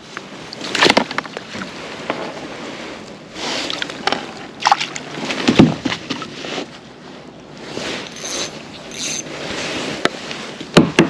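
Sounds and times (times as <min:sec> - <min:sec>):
water splashing and sloshing: 0:00.0 - 0:10.8.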